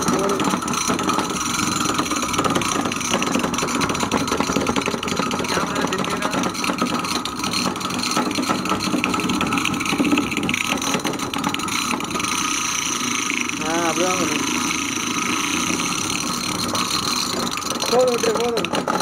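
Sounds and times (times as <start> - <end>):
coconut grinder rasping: 0.0 - 19.0.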